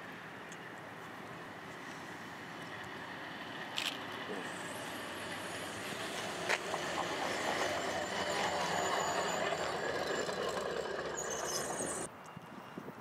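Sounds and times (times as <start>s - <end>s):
tram passing on track: 0.0s - 12.8s.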